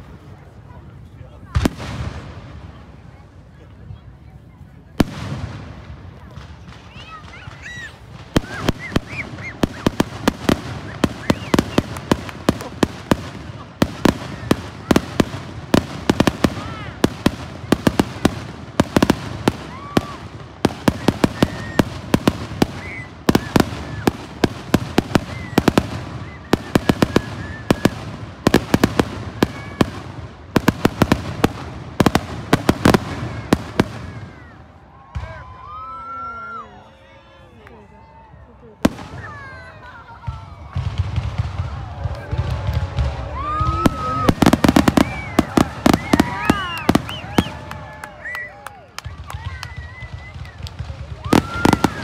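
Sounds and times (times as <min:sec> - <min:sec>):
fireworks bangs and cracks: 0:00.0 - 0:04.1, 0:04.9 - 0:35.8, 0:38.8 - 0:52.0.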